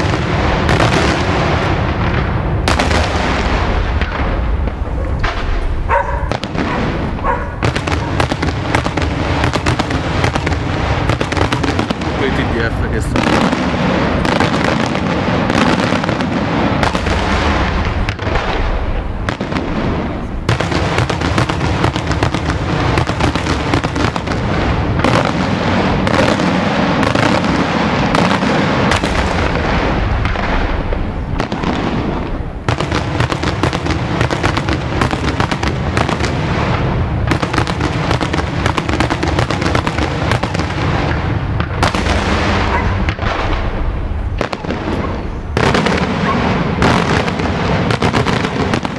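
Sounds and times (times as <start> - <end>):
fireworks bursts and crackling bangs: 0.0 - 48.9.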